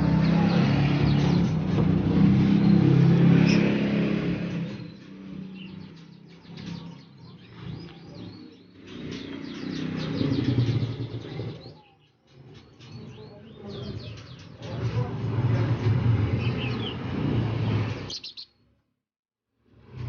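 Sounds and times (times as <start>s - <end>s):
vehicle engine droning: 0.0s - 18.3s
songbirds chirping: 0.0s - 18.8s.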